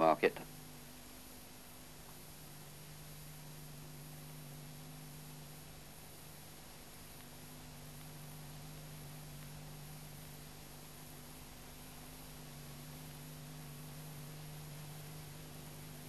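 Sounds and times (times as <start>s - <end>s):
low electrical hum: 0.0s - 16.0s
tape hiss: 0.0s - 16.0s.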